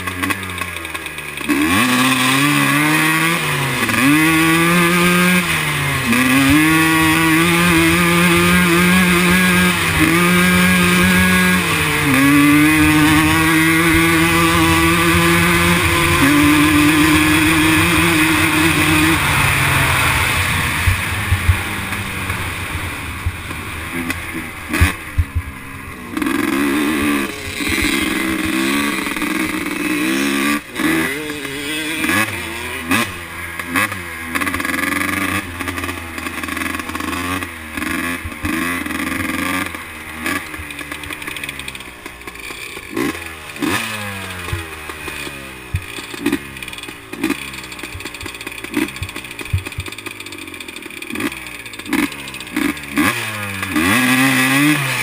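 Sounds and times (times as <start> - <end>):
two-stroke engine revving: 0.0 - 55.0.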